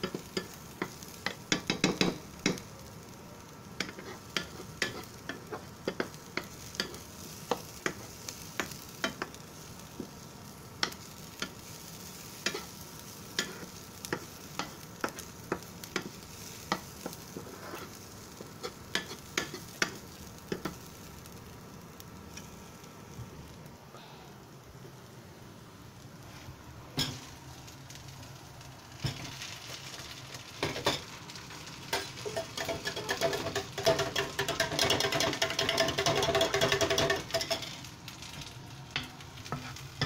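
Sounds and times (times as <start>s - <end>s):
onions sizzling: 0.0s - 40.0s.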